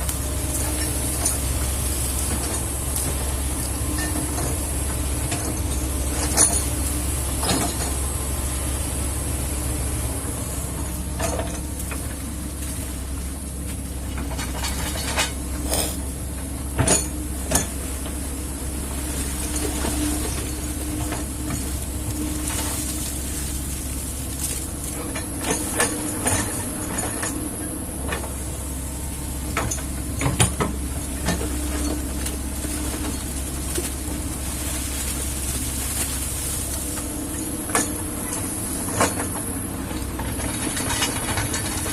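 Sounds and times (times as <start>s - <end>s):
machine clanks and knocks: 0.0s - 8.1s, 11.0s - 12.9s, 13.6s - 18.3s, 19.2s - 28.5s, 29.3s - 34.3s, 36.9s - 41.9s
excavator diesel engine running: 0.0s - 41.9s.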